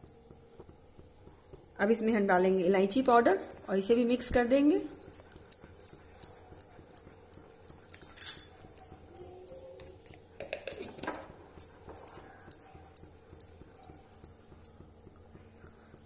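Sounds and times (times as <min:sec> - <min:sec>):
spatula stirring custard in pan: 0:00.0 - 0:16.0.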